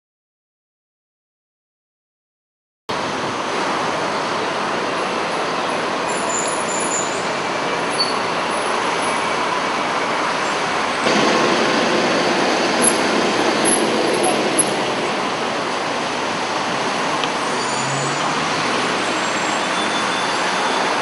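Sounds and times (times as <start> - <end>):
cars driving past: 3.0 - 21.0.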